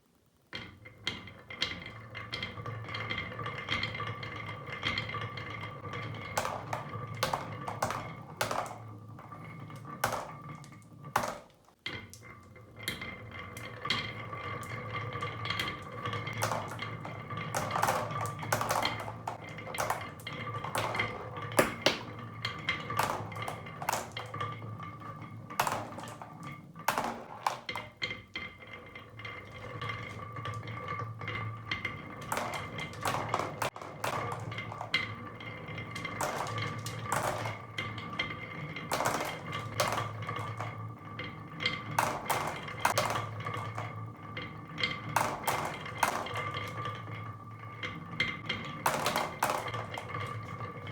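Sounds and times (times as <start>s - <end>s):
marbles rolling on track: 0.5s - 50.9s
marbles clacking: 0.6s - 50.9s.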